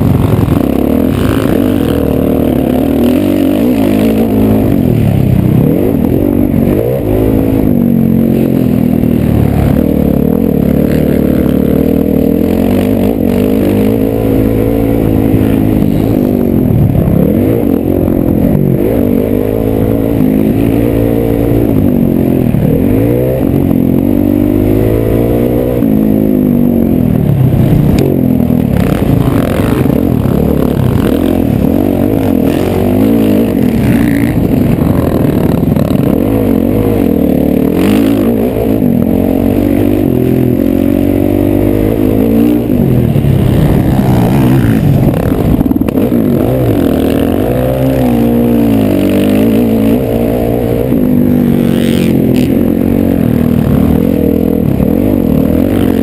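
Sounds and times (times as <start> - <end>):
dirt bike engine racing: 0.0 - 56.0.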